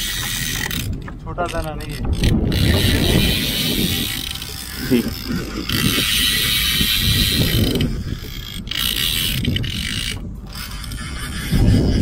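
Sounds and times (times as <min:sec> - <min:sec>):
fishing reel ratcheting: 0:00.0 - 0:12.0.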